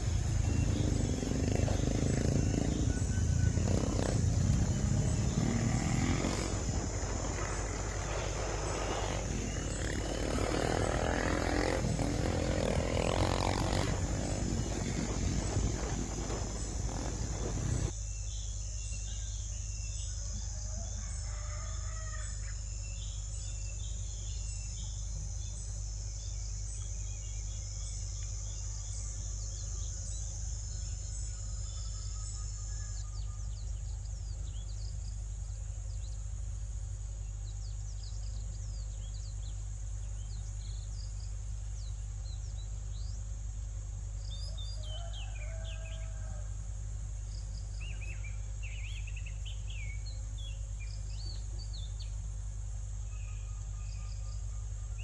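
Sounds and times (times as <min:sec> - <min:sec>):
constant low hum: 0:00.0 - 0:55.0
high insect drone: 0:00.0 - 0:55.0.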